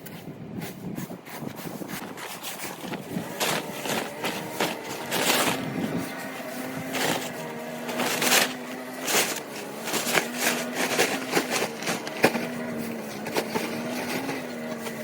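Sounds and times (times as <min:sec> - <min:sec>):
small engine running: 0:02.2 - 0:15.0.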